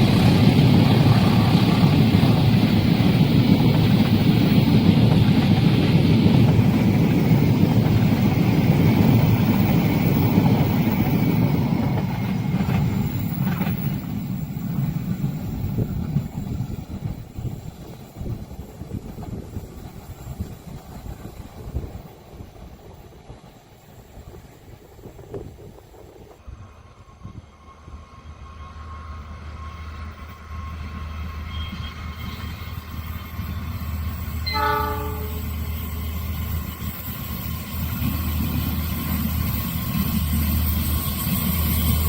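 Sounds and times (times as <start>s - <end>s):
train rumbling past on rails: 0.0s - 42.0s.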